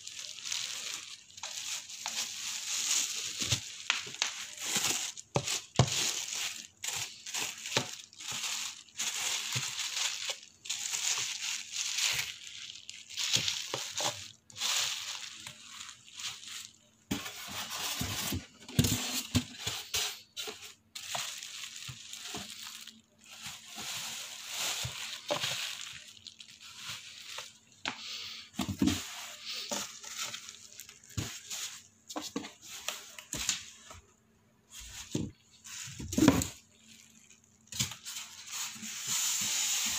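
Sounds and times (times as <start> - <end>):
plastic wrap crinkling: 0.0 - 39.9.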